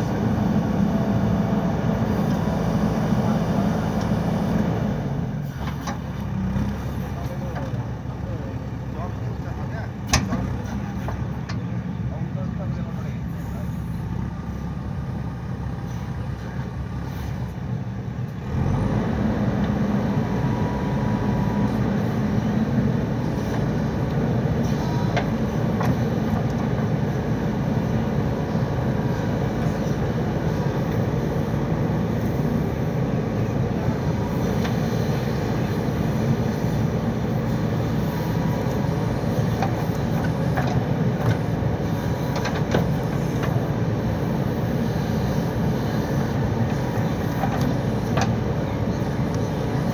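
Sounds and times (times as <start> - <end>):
diesel engine under load: 0.0 - 49.9.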